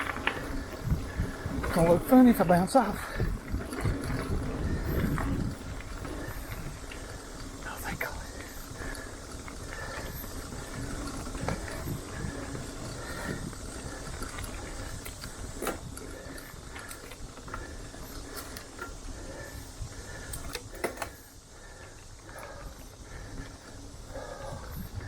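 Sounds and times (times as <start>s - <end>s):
bike drivetrain and frame rattling: 0.0s - 25.0s.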